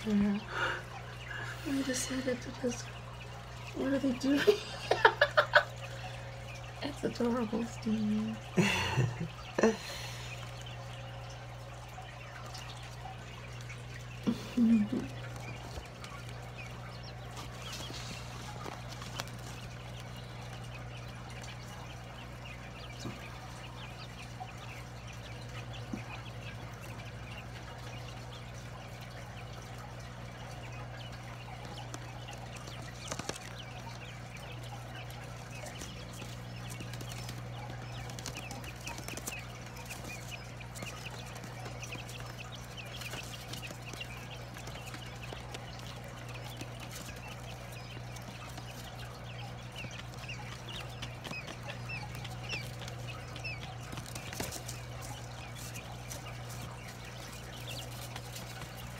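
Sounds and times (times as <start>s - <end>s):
chicks peeping: 0.0s - 58.9s
steady low hum: 0.0s - 58.9s.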